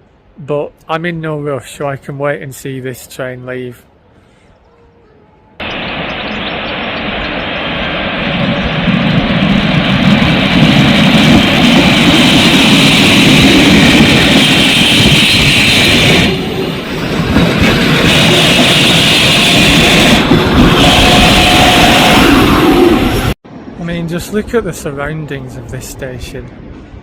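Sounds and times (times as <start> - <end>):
electric train rumbling: 5.3 - 27.0.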